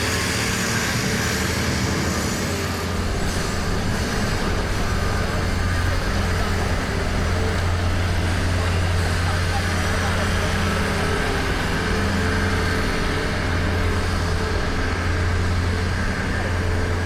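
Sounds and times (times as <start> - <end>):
street traffic: 0.0 - 17.0
vehicle engine rumbling: 0.0 - 17.0.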